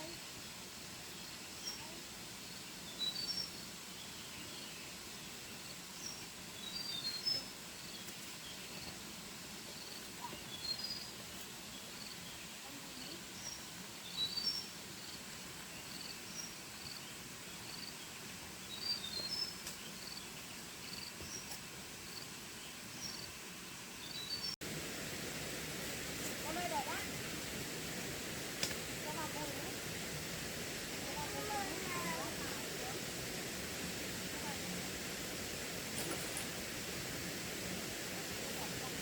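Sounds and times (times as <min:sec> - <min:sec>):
steady background hiss: 0:00.0 - 0:39.0
birds chirping: 0:01.1 - 0:23.4, 0:24.0 - 0:39.0.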